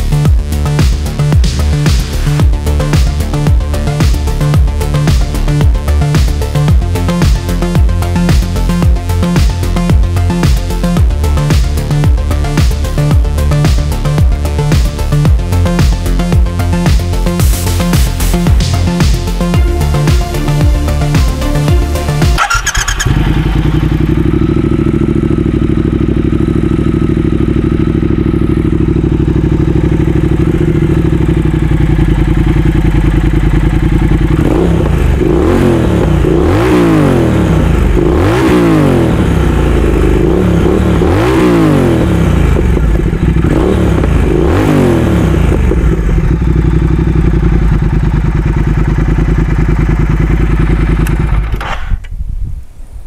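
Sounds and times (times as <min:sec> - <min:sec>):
motorcycle engine idling and revving: 0:00.0 - 0:52.6.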